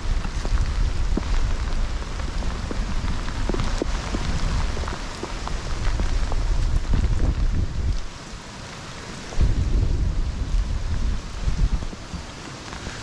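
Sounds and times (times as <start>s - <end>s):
heavy rain on pavement: 0.0s - 13.0s
raindrops ticking: 0.0s - 13.0s
wind rumbling on microphone: 0.0s - 13.0s.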